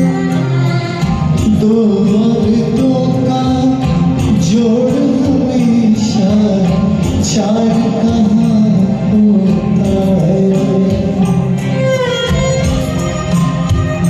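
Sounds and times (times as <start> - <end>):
karaoke backing track: 0.0 - 14.0.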